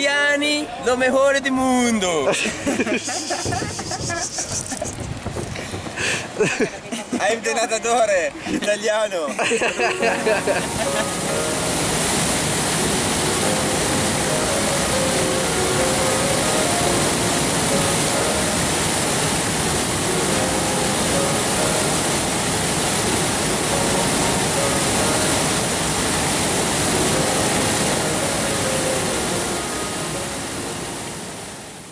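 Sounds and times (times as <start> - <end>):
whitewater rushing: 0.0 - 31.9.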